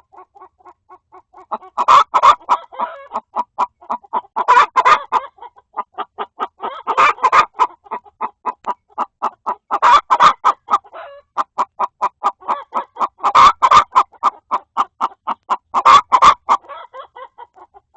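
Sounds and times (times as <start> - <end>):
hens clucking: 0.0 - 17.9.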